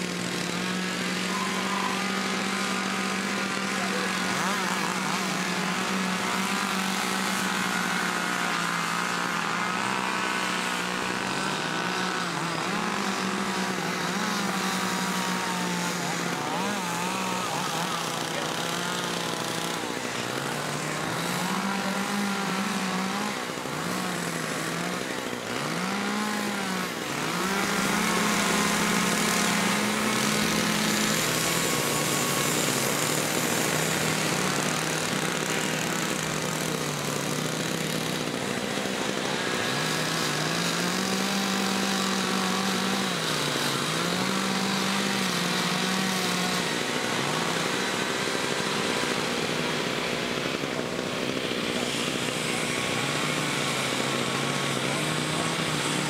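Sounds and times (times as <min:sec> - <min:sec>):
chainsaws revving: 0:00.0 - 0:56.0.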